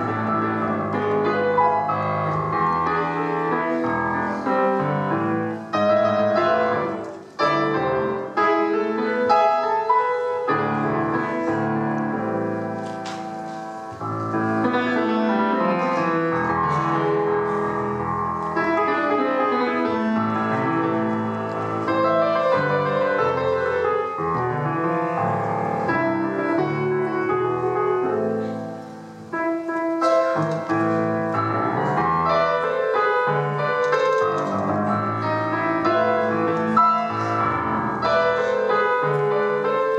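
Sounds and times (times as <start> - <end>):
solo grand piano: 0.0 - 39.9.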